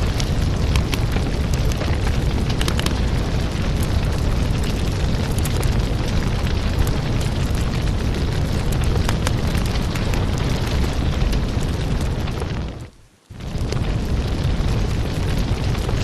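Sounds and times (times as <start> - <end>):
fire rumbling: 0.0 - 16.0
wood crackling and popping: 0.0 - 16.0.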